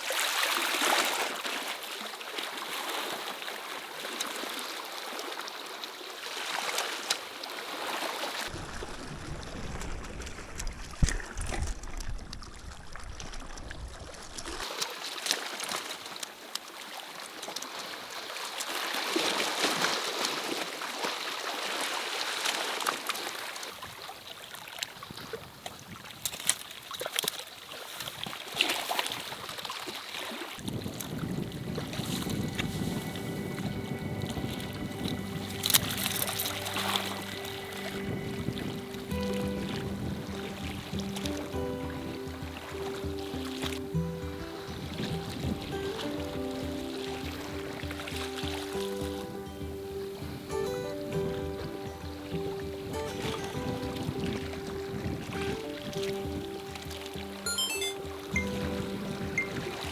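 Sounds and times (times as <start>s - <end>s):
trickling water: 0.0s - 59.9s.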